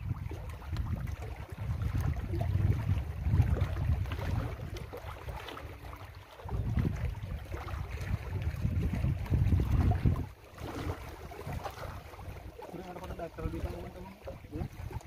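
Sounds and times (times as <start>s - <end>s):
water lapping against rocks: 0.0s - 15.0s
wind buffeting microphone: 0.0s - 15.0s.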